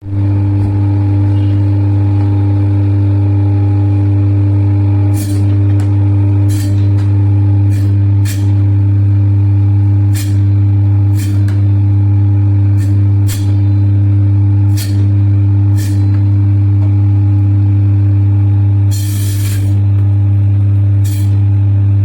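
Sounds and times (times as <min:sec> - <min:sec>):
cutting machine humming: 0:00.0 - 0:22.0.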